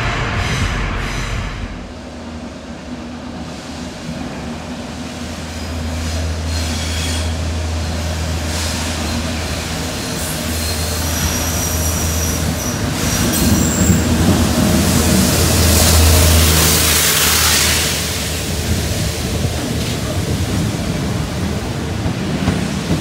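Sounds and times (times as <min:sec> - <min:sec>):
locomotive passing with low drone: 0:00.0 - 0:23.0.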